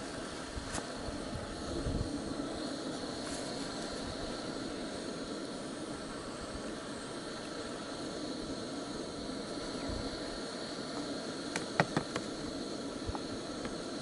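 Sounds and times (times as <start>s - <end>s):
steady hissing noise: 0.0s - 14.0s.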